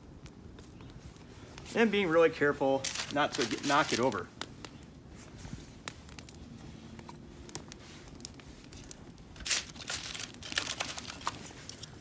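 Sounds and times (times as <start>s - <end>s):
fire crackling and popping: 0.0s - 12.0s
sticks rustling and crinkling: 0.1s - 12.0s.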